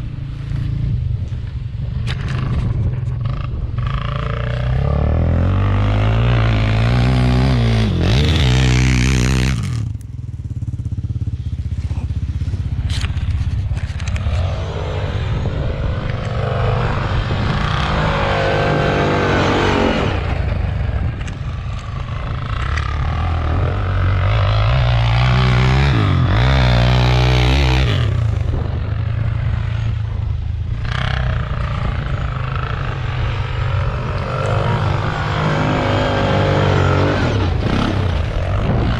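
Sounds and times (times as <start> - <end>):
quad bike engines revving: 0.0 - 38.9.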